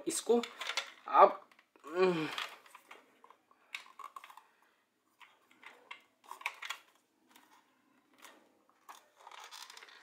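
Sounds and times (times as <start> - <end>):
faint plastic clicks and scrapes: 0.4 - 10.0.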